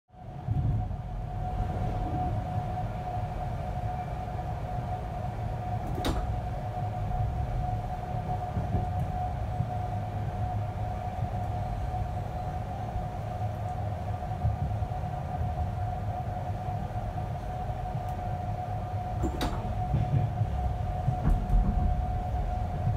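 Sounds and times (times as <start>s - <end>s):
train rumble inside coach: 0.1s - 22.9s.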